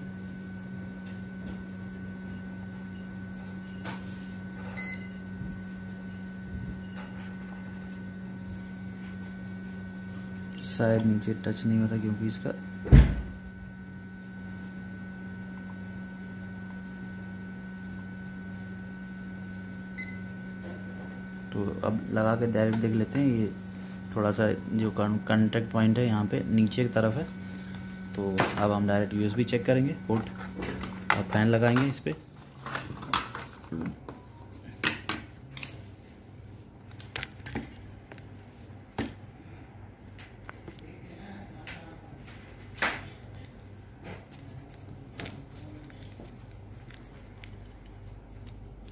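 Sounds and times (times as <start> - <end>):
electrical hum: 0.0 - 48.9.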